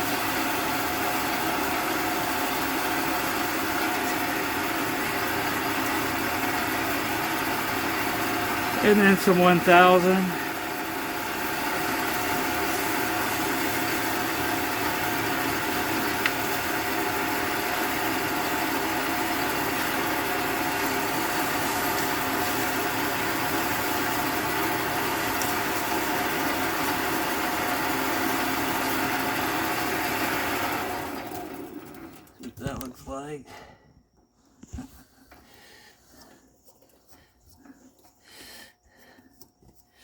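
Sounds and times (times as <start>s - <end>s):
small motor running: 0.0s - 32.2s.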